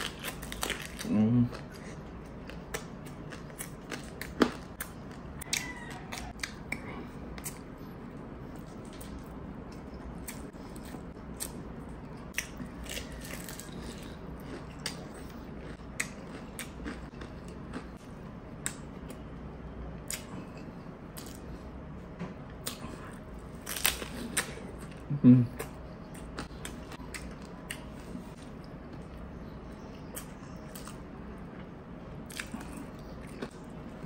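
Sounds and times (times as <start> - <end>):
chewing crunchy food: 0.0 - 19.2, 22.6 - 34.0.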